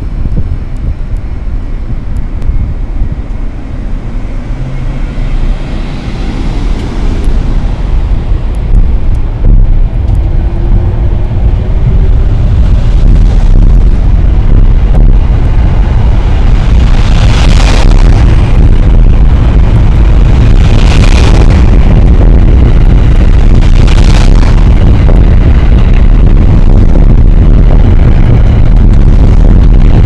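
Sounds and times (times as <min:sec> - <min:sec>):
train rumble: 0:00.0 - 0:30.0
wind buffeting microphone: 0:00.0 - 0:30.0
faint rising whine: 0:01.6 - 0:30.0.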